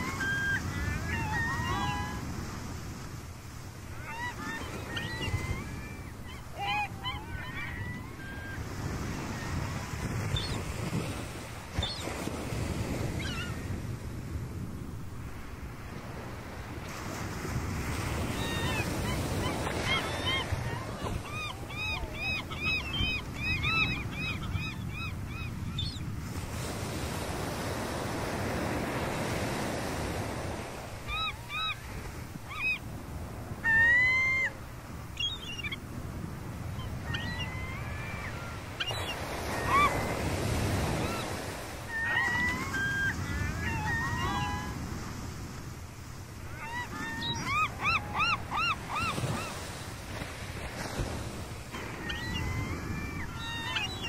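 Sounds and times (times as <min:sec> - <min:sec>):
gulls calling: 0:00.0 - 0:02.6, 0:03.8 - 0:13.6, 0:17.9 - 0:45.1, 0:46.4 - 0:54.0
surf washing: 0:00.0 - 0:54.0.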